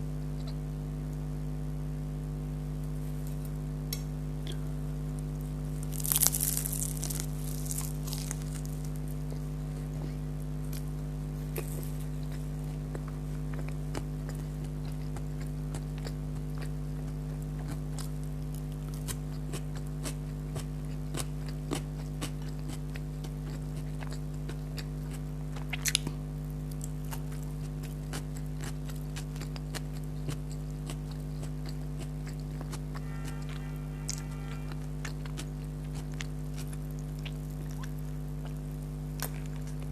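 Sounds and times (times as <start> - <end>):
low electrical hum: 0.0 - 39.9
crunchy bite: 3.2 - 39.9
crunching chewing clicks: 5.2 - 39.9.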